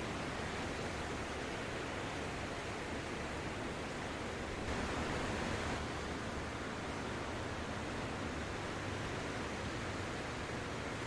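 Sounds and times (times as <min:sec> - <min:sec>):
waves washing up a sandy shore: 0:00.0 - 0:11.0.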